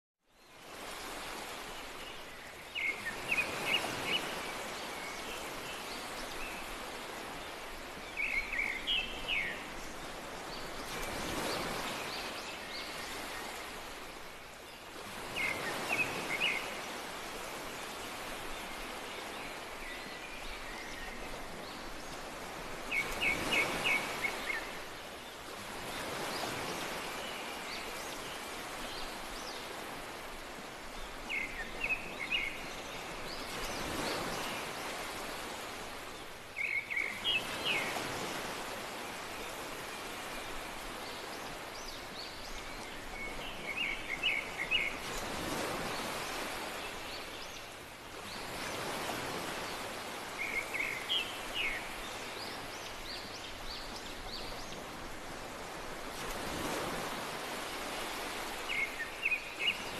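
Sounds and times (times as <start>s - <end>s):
surf waves washing in: 0.4s - 59.9s.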